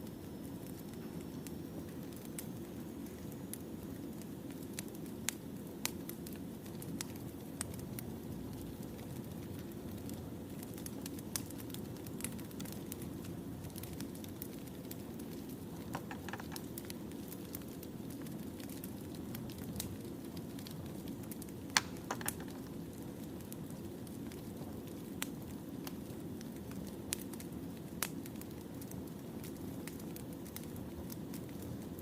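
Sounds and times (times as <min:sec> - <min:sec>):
firewood crackling and popping: 0:00.0 - 0:32.0.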